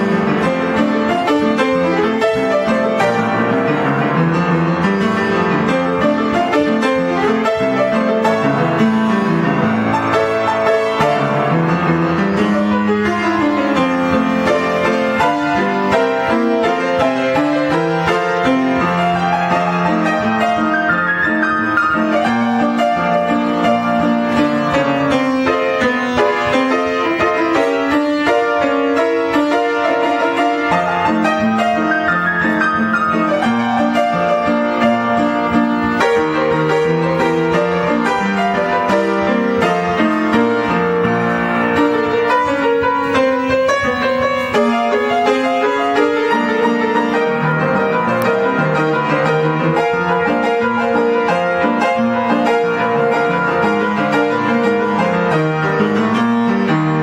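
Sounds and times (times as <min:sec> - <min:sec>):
ragtime piano: 0:00.0 - 0:57.0.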